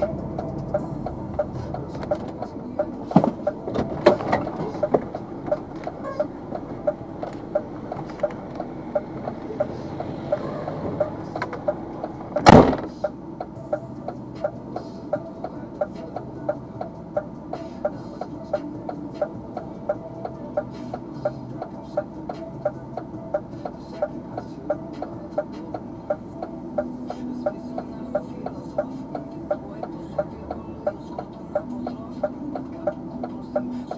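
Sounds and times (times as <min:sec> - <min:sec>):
truck engine humming: 0:00.0 - 0:33.9.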